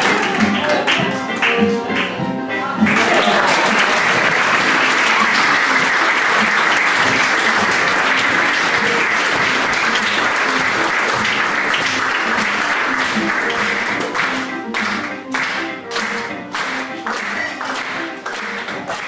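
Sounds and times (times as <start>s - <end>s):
audience applauding: 0.0s - 2.2s, 2.8s - 19.0s.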